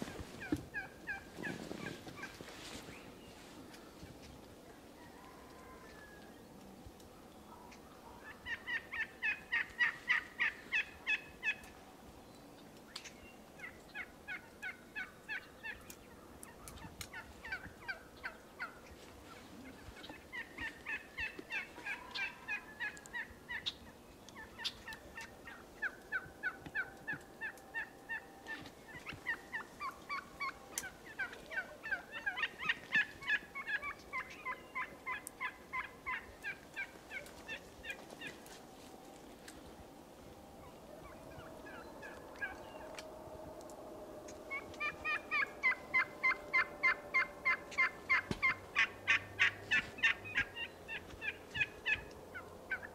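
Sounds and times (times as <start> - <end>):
turkeys gobbling: 0.0 - 6.8, 7.4 - 11.8, 12.8 - 39.7, 40.6 - 52.9.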